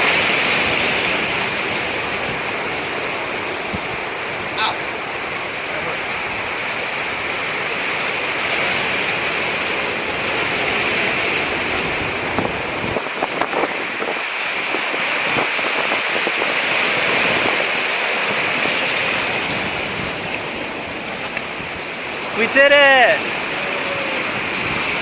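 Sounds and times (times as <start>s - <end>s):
ocean surf breaking on shore: 0.0s - 25.0s.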